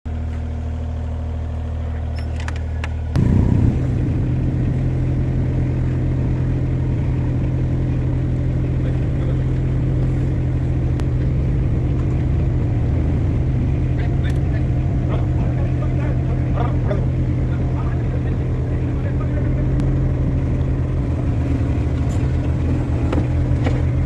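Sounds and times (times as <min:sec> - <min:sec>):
excavator diesel engine revving: 0:03.0 - 0:24.0.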